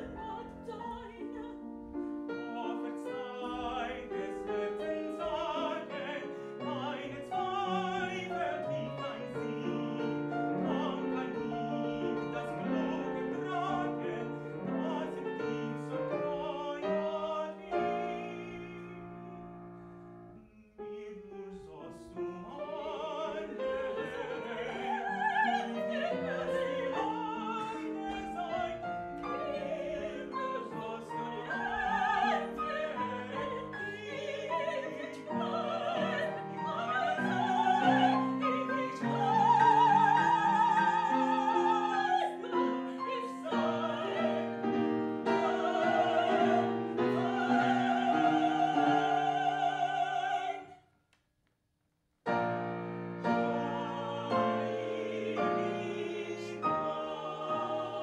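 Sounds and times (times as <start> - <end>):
piano accompaniment: 0.0 - 50.6, 52.3 - 58.0
operatic singing: 0.0 - 50.8, 53.3 - 58.0.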